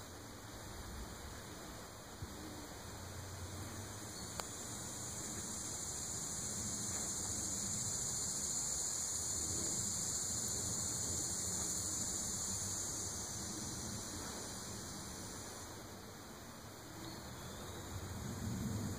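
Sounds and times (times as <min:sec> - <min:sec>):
cicadas buzzing: 0:00.0 - 0:18.9.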